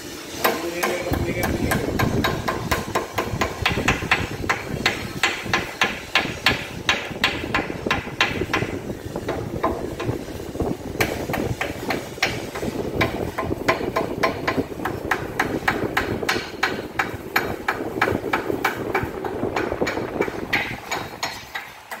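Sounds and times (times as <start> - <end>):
rhythmic metallic knocking: 0.4 - 22.0.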